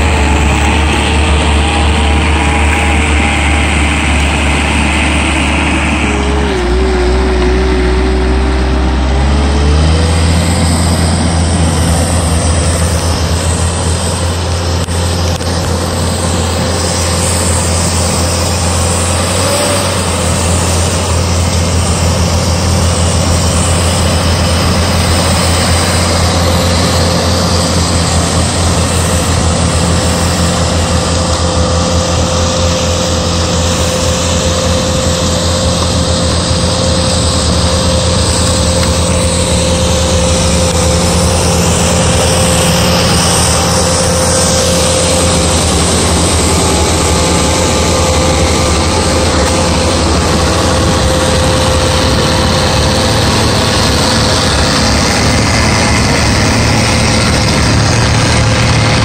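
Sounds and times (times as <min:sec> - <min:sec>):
diesel engine under load: 0:00.0 - 0:59.0
thin wavering whine: 0:00.0 - 0:59.0.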